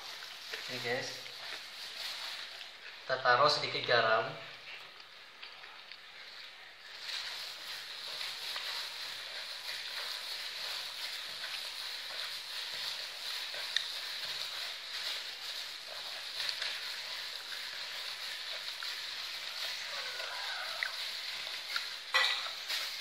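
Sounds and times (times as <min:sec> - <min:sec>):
gloved hand kneading dough: 0:00.0 - 0:04.4, 0:06.9 - 0:23.0
steady hiss: 0:00.0 - 0:23.0.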